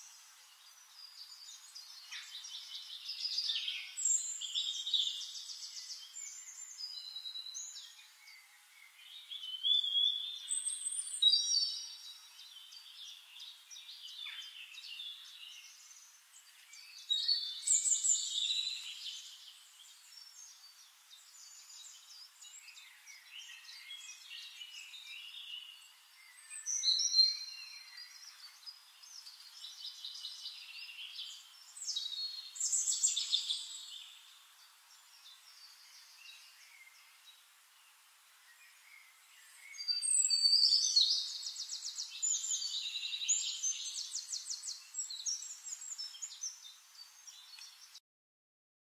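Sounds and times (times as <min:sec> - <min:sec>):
songbirds singing: 0:00.0 - 0:48.0.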